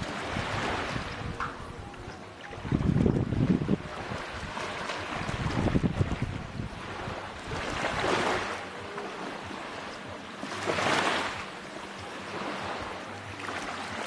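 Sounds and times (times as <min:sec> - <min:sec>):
sea waves washing on a beach: 0:00.0 - 0:14.0.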